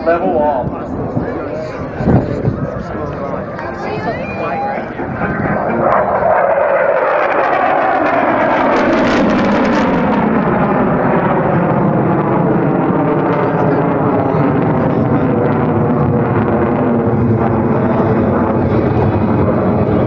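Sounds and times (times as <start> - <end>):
loud jet engine noise: 0.0 - 20.0.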